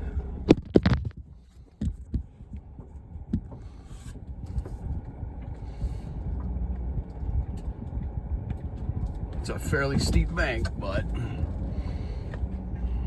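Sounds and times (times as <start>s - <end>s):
pickup truck rumbling: 0.0s - 13.0s.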